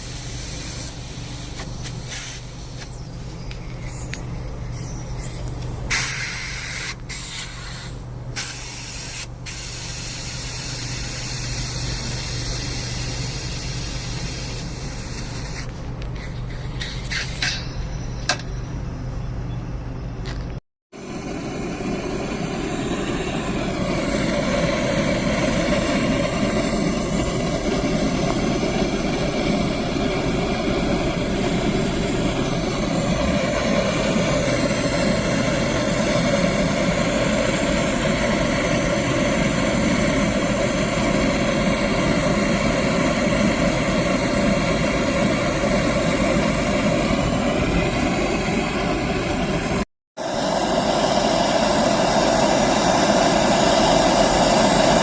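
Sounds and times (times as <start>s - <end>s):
machine droning: 0.0s - 55.0s.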